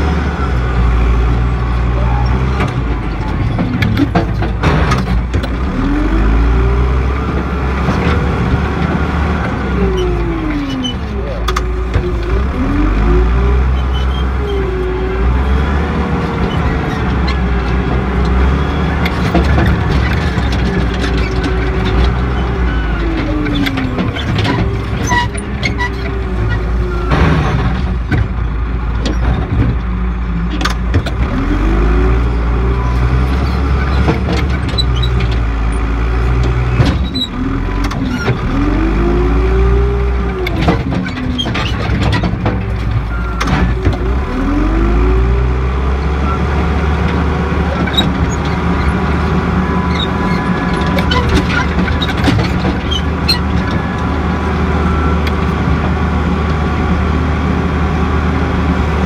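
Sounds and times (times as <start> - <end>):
backhoe diesel engine: 0.0 - 59.0.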